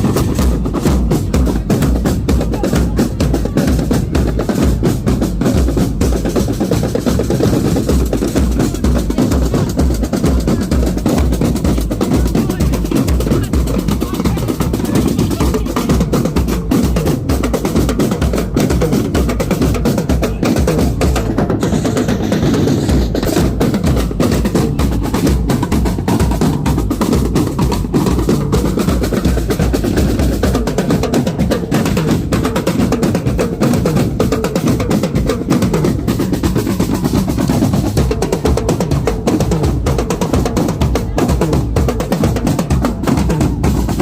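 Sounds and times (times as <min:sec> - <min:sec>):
bass drum beats: 0:00.0 - 0:44.0
snare drums rolling: 0:00.0 - 0:44.0.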